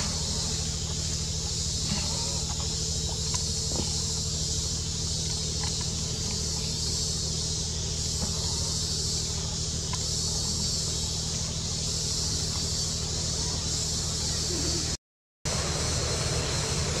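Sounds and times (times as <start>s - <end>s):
high even hiss: 0.0s - 17.0s
low steady hum: 0.0s - 17.0s.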